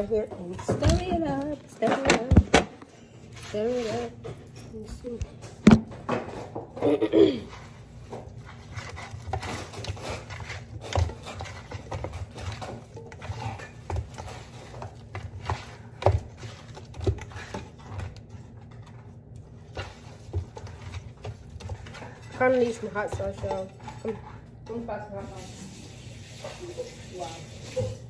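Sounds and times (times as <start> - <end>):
hands mixing chicken in bowl: 0.0 - 6.7, 7.4 - 28.0.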